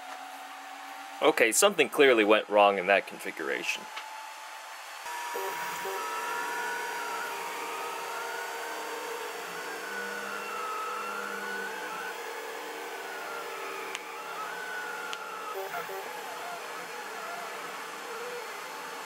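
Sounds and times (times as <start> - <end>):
steady mechanical hum: 0.0 - 19.0
stepper motors whining: 3.6 - 19.0.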